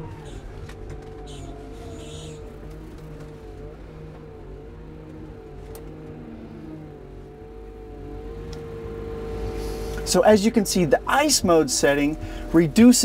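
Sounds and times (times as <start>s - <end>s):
drive whine: 0.0s - 13.0s
wheel loader engine running: 0.0s - 13.0s.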